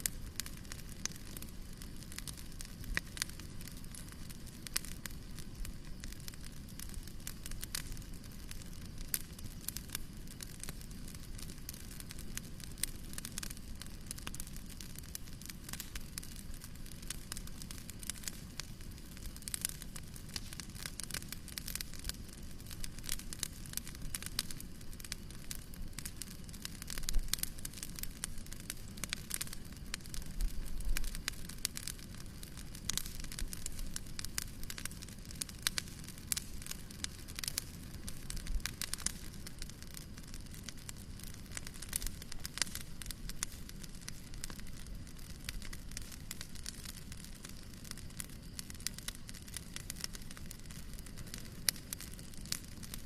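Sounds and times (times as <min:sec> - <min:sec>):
low rumble of flames: 0:00.0 - 0:53.0
wood fire crackling: 0:00.0 - 0:53.0.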